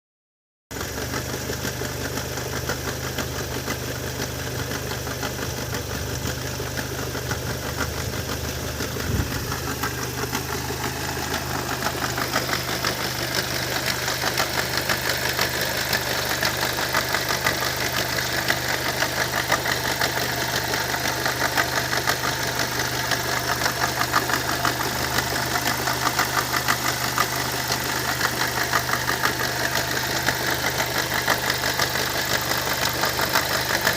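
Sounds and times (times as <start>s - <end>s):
rapid engine ticking: 0.8s - 33.9s
car engine humming: 5.2s - 33.9s.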